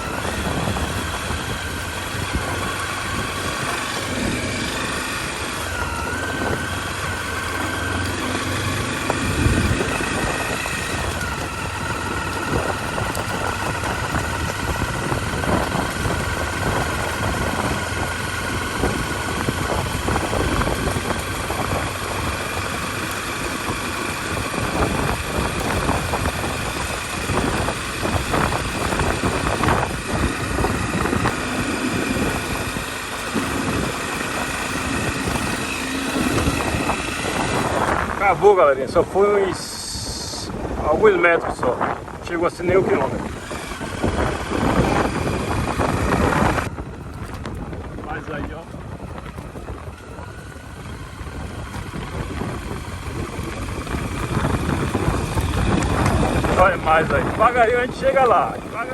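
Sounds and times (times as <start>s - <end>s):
motorcycle engine: 0.0s - 58.9s
wind on microphone: 0.0s - 58.9s.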